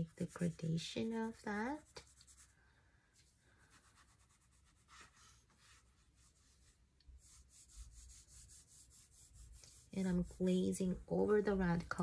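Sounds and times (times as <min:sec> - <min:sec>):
brush stroking across paper: 0:00.0 - 0:12.0.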